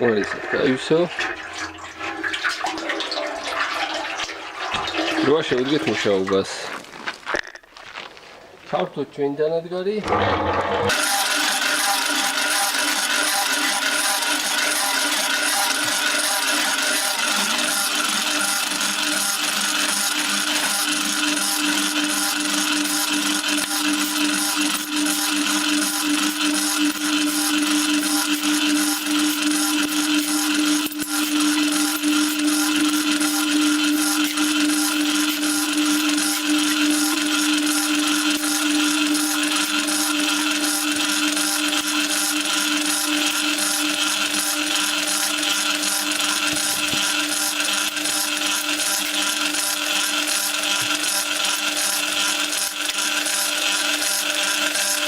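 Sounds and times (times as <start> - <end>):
churning concrete mix: 0.0 - 7.5, 9.9 - 55.0
concrete mixer motor hum: 0.0 - 8.8, 9.8 - 55.0.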